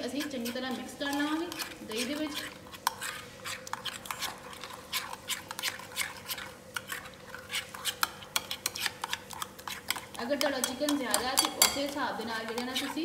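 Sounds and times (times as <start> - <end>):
spoon scraping a bowl: 0.0 - 13.0.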